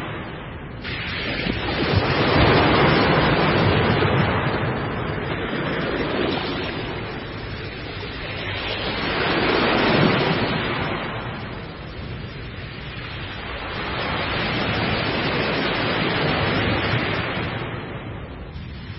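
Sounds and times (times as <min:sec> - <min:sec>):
ocean waves breaking: 0:00.0 - 0:18.9.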